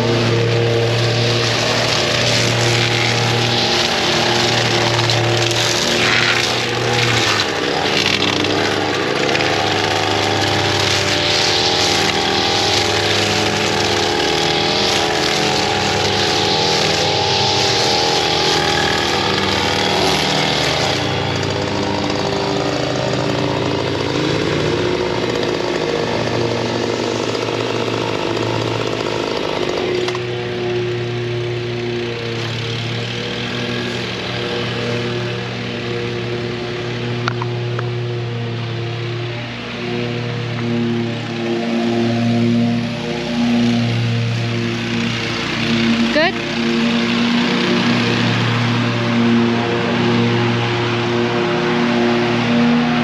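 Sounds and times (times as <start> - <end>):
lawn mower engine cutting grass: 0.0 - 53.0.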